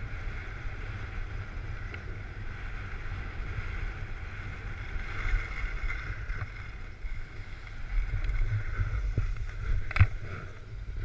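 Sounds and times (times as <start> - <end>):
skis scraping over snow: 0.0 - 11.0
wind rumbling on microphone: 0.0 - 11.0.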